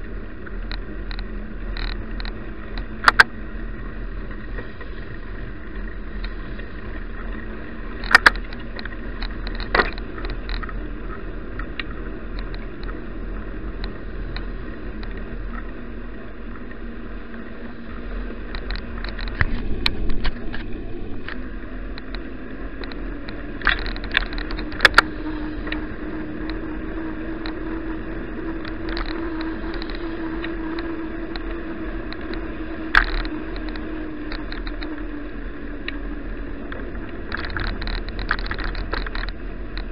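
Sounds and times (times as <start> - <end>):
bicycle tyres and wind rumble: 0.0 - 39.9
low hum: 0.0 - 39.9.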